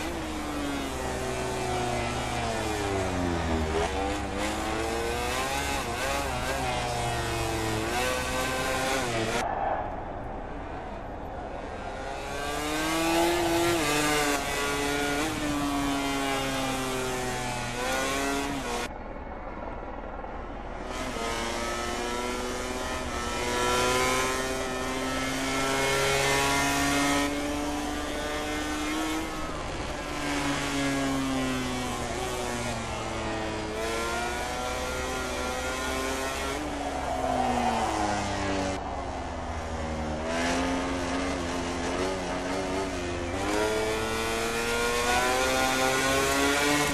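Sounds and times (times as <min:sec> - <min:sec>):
racing motorcycle engines shifting gears: 0:00.0 - 0:09.4, 0:11.4 - 0:18.9, 0:20.8 - 0:46.9.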